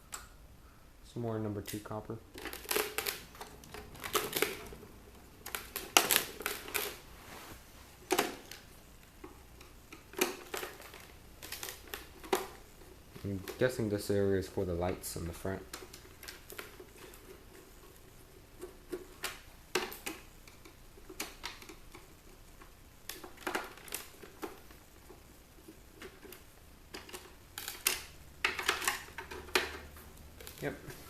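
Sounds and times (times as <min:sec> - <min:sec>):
clicks and rattles of plastic parts: 0:01.5 - 0:04.8, 0:05.4 - 0:07.0, 0:08.0 - 0:31.0.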